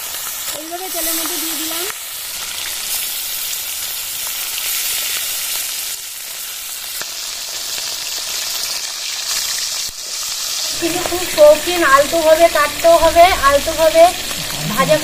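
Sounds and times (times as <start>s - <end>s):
fish frying in oil: 0.0s - 15.0s.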